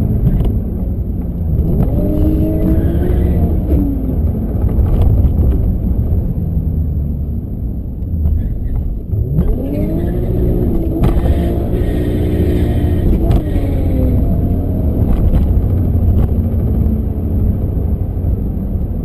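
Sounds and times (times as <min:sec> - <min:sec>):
car engine from inside cabin: 0:00.0 - 0:19.0.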